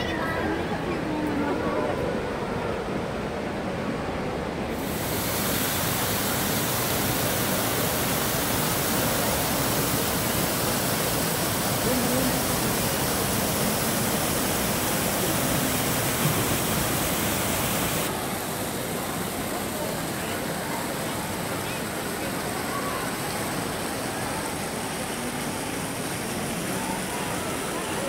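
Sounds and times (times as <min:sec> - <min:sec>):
waterfall pouring into pool: 0:04.7 - 0:28.0.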